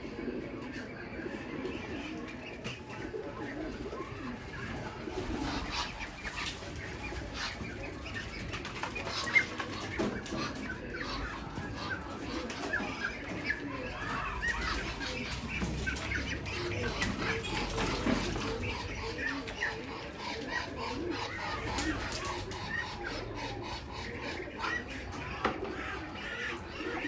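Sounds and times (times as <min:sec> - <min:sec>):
pigeons calling: 0:00.0 - 0:27.0.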